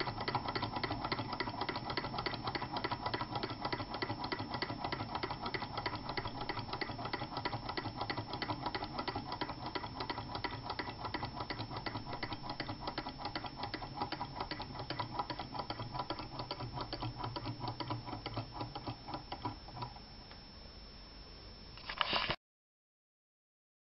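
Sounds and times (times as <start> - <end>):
model engines mechanical clicking: 0.0 - 20.0.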